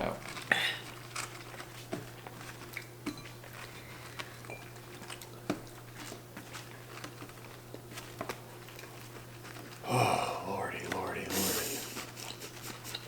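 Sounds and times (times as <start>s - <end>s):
eating clicks and mouth noises: 0.0s - 13.0s
low electrical hum: 0.0s - 13.0s.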